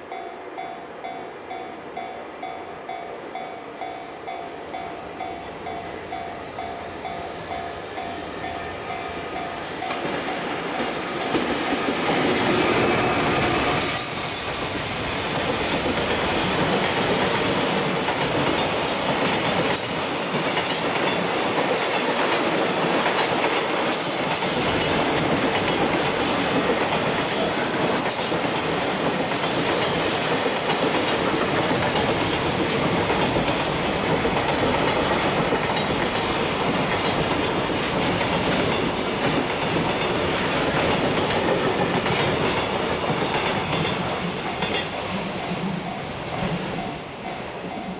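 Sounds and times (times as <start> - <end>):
electric locomotive passing: 0.0 - 47.9.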